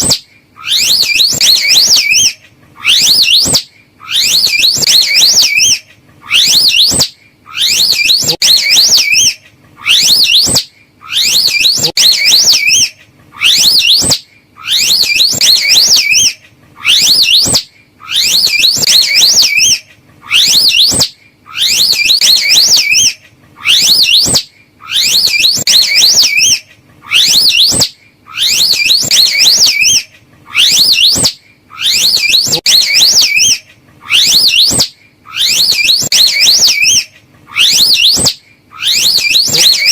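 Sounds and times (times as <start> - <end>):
high-pitched warbling animal calls: 0.0 - 39.9.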